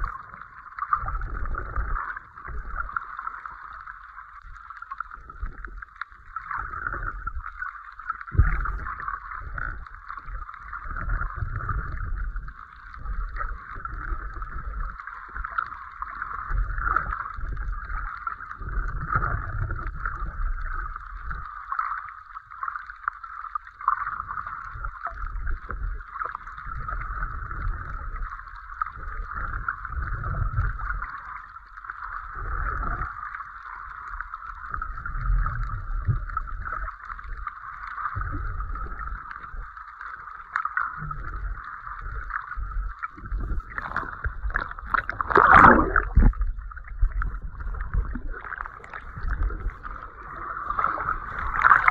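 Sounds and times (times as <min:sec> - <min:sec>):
muffled underwater hiss: 0:00.0 - 0:22.0, 0:24.2 - 0:51.9
low rumbling water surges: 0:00.0 - 0:23.2, 0:23.8 - 0:51.9.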